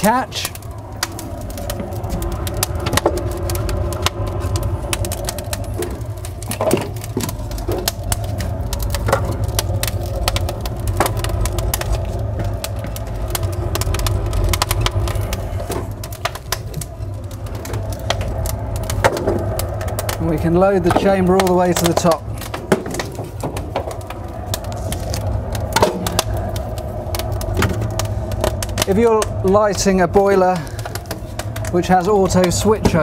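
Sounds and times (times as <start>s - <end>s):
log fire crackling: 0.0s - 33.0s
logs knocking onto fire: 0.0s - 33.0s
low rumble: 0.0s - 33.0s.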